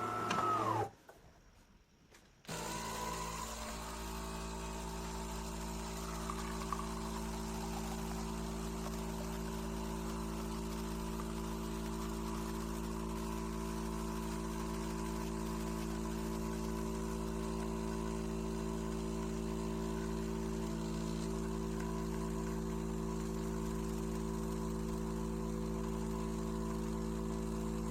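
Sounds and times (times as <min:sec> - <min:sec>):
espresso machine pump humming: 0:02.5 - 0:27.9.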